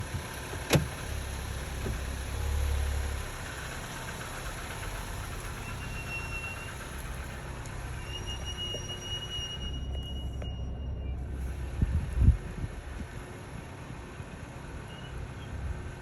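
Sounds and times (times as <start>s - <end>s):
brakes squealing: 0.0s - 16.0s
car low rumble: 0.0s - 16.0s.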